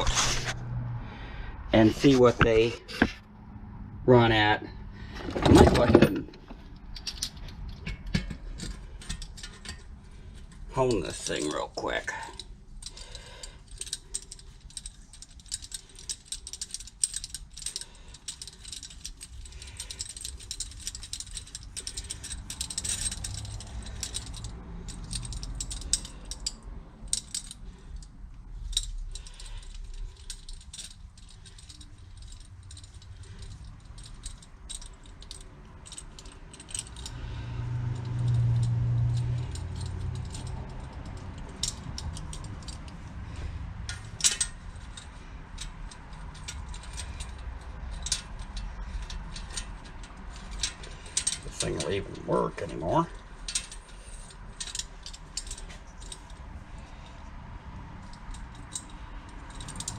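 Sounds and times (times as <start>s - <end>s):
metal tools clinking: 5.2s - 59.9s.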